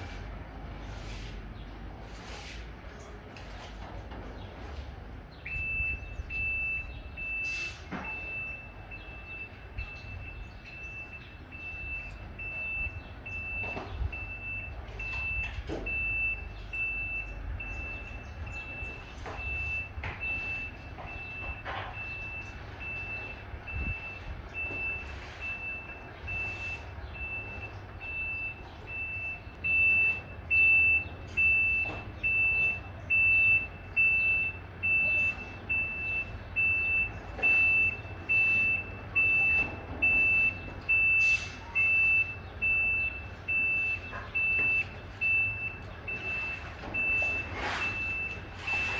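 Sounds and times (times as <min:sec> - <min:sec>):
truck engine rumble: 0:00.0 - 0:48.9
truck reversing alarm beeping: 0:04.5 - 0:48.9.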